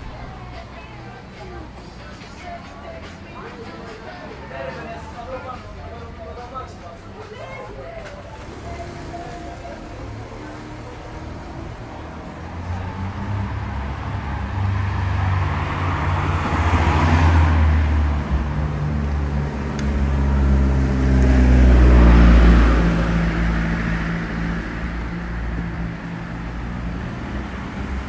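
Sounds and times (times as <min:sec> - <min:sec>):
steady engine hum: 0:00.0 - 0:28.0
vehicles passing: 0:00.0 - 0:28.0.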